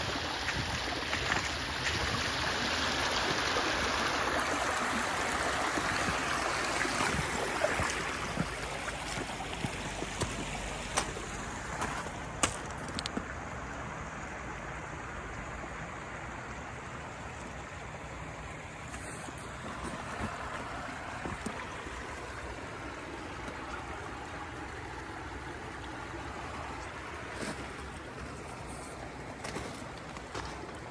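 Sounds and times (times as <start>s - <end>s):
water rushing over rocks: 0.0s - 30.9s.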